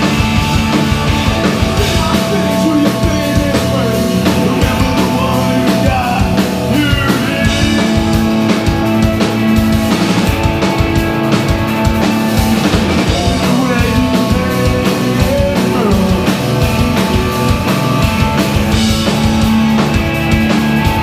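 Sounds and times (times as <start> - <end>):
drum kit: 0.0 - 21.0
electric guitars: 0.0 - 21.0.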